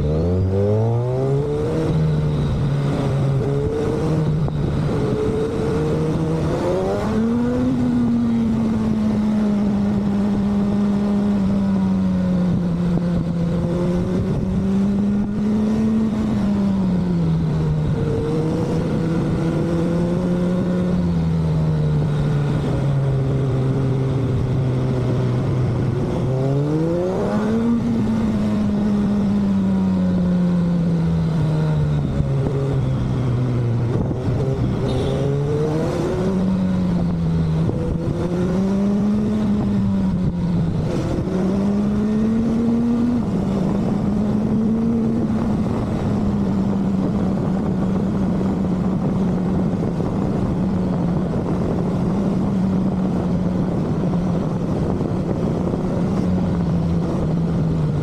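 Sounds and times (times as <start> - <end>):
motorcycle engine at speed: 0.0 - 58.0
wind and road noise: 0.0 - 58.0.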